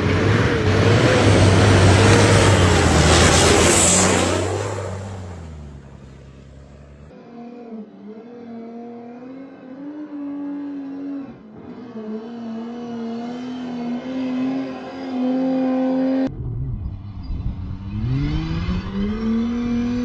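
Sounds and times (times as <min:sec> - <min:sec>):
engine revving up: 0:00.0 - 0:20.0
rally car engine at high revs: 0:00.0 - 0:20.0.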